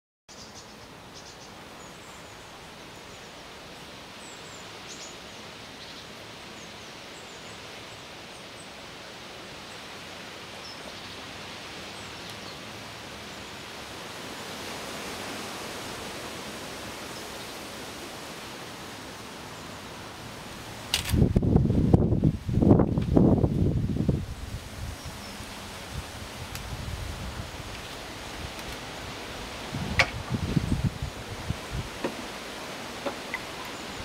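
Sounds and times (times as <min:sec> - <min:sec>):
outdoor background hiss: 0:00.3 - 0:34.0.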